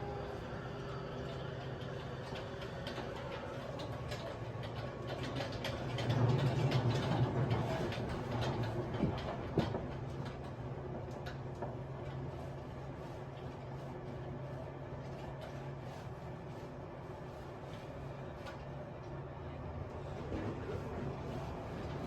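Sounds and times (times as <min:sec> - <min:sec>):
train cabin rumble: 0:03.2 - 0:22.0.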